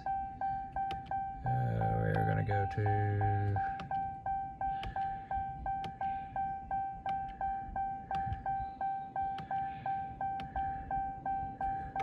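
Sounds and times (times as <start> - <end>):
pulsing warning chime: 0.0 - 12.0
sharp clicks: 0.0 - 12.0.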